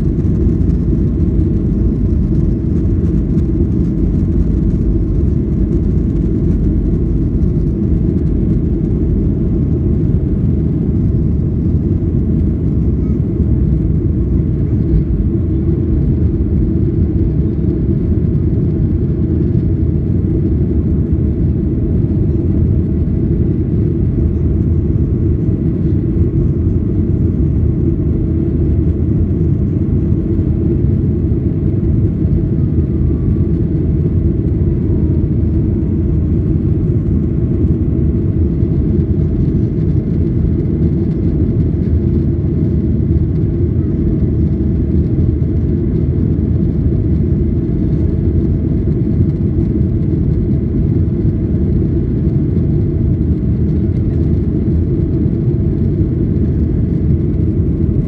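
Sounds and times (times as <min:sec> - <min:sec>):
jet engine cabin rush: 0:00.0 - 0:58.0.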